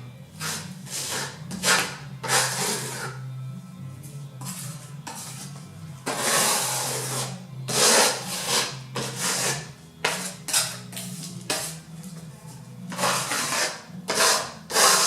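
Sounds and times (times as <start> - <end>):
trowel scraping plaster on wall: 0.4 - 3.3, 4.4 - 11.8, 12.9 - 15.0.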